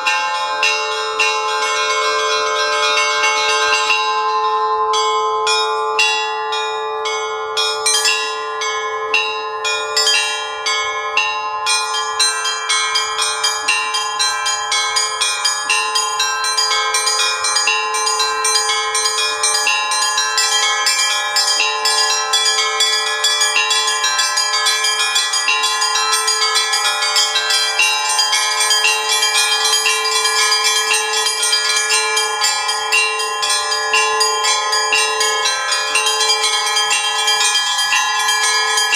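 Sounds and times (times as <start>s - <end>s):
low bell humming: 0.0s - 38.9s
small bells chiming: 0.0s - 38.9s.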